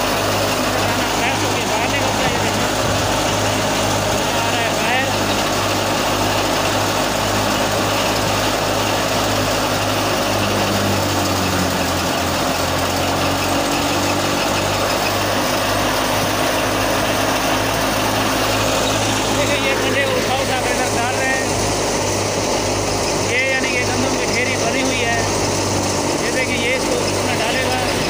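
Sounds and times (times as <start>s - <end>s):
thresher machine running: 0.0s - 28.0s.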